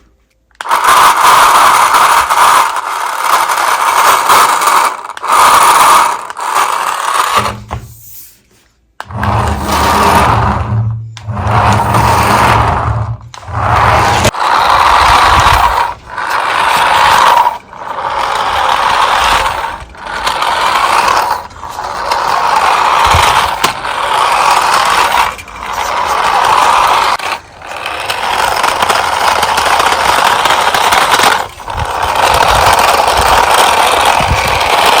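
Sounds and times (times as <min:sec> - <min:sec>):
toy car motor whirring: 0:00.5 - 0:08.4, 0:09.0 - 0:35.0.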